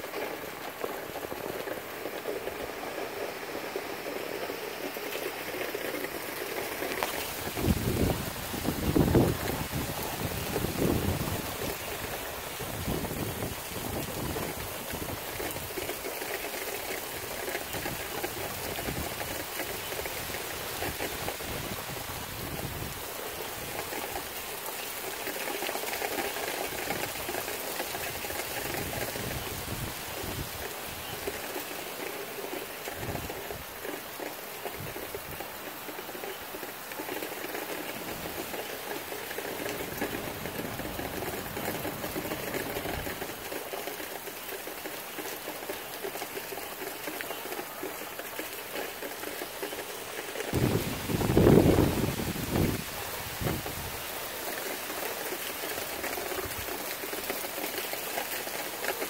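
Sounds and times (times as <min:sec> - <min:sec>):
gusting wind buffeting microphone: 0:00.0 - 0:24.4, 0:26.6 - 0:31.5, 0:32.6 - 0:46.8, 0:48.3 - 0:54.4
steady rain: 0:00.0 - 0:59.0.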